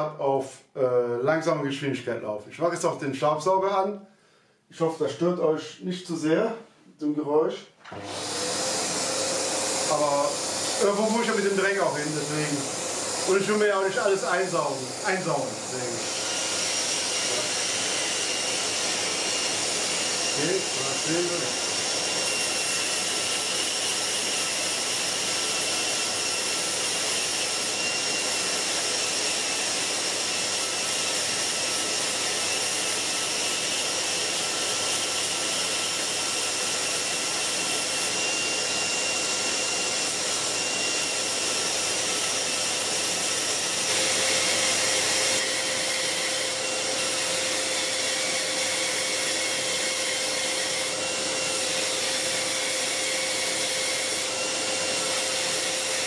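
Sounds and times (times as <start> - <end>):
vacuum cleaner running: 7.8 - 56.0
belt sander grinding wood: 7.9 - 56.0.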